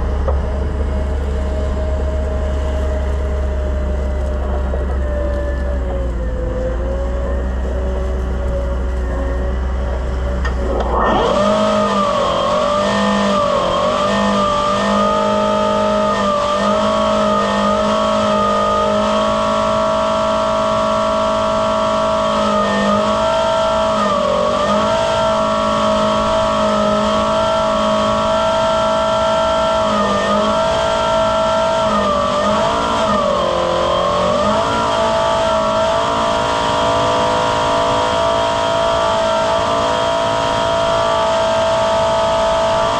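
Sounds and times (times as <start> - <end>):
blower air rush and turbine whine: 0.0 - 42.9.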